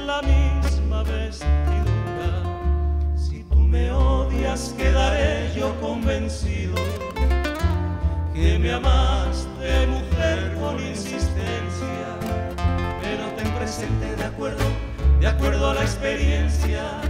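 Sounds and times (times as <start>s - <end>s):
man singing: 0.0s - 7.4s, 8.3s - 17.0s
double bass: 0.0s - 17.0s
nylon-string guitars picking: 0.0s - 17.0s.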